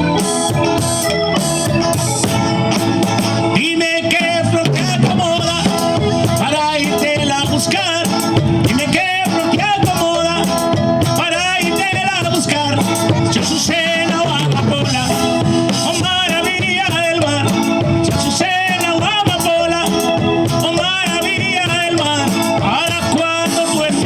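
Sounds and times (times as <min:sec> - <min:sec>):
latin band music with singing: 0:00.0 - 0:24.0.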